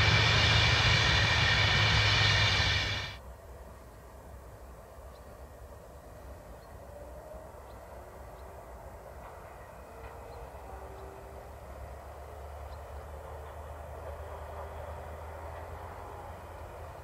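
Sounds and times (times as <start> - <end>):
distant train wheels rumbling: 0.0 - 17.0.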